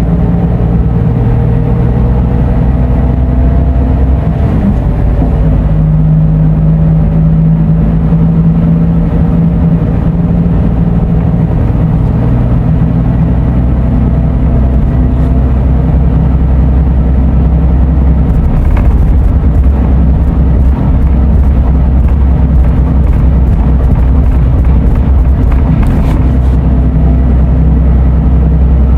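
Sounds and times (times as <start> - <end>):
diesel bus engine droning: 0.0 - 28.9
low hum: 0.0 - 28.9
road noise: 0.0 - 28.9.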